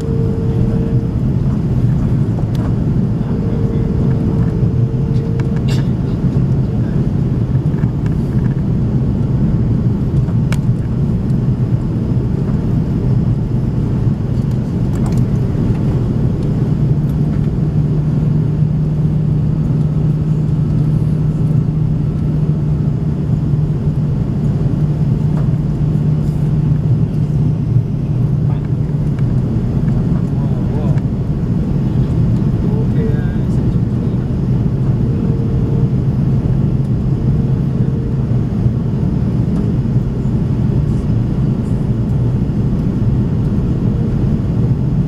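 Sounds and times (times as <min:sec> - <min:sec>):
airflow rumble: 0:00.0 - 0:45.0
airplane engine drone: 0:00.0 - 0:45.0.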